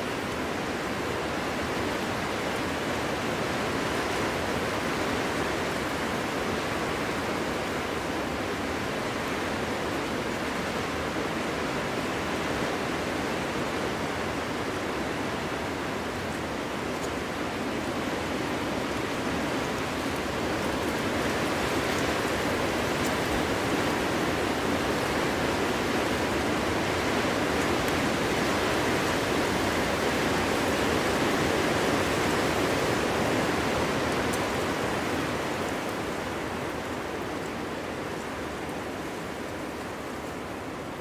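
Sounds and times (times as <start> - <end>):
wind through forest: 0.0 - 41.0.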